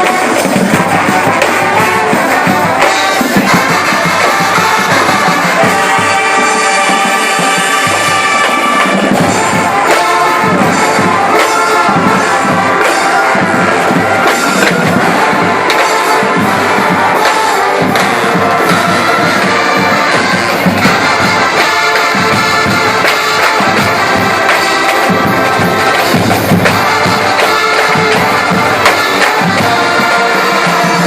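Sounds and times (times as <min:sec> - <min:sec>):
brass horns sustained notes: 0:00.0 - 0:31.0
marching drums: 0:00.0 - 0:31.0.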